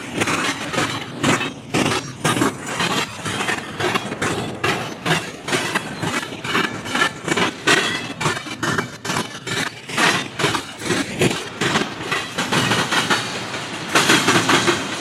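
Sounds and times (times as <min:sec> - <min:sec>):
rhythmic rail clacks: 0:00.0 - 0:15.0
train wheels rumbling on rails: 0:00.0 - 0:15.0.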